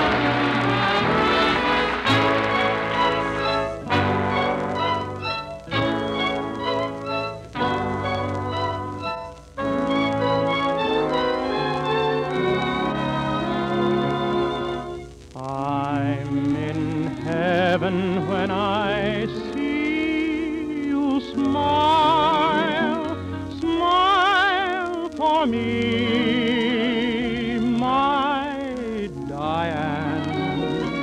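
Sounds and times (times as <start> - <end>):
orchestra playing: 0.0 - 15.1, 16.4 - 28.3, 29.0 - 31.0.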